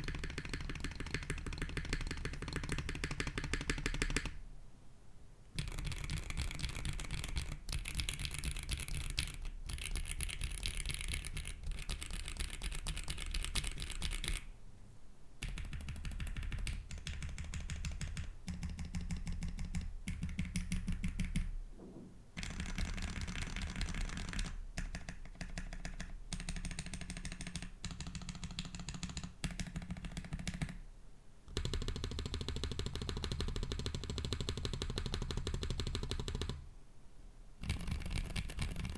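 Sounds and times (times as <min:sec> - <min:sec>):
mechanical keyboard typing: 0:00.0 - 0:04.4, 0:05.6 - 0:14.4, 0:15.4 - 0:21.5, 0:22.4 - 0:30.8, 0:31.5 - 0:36.6, 0:37.6 - 0:38.9.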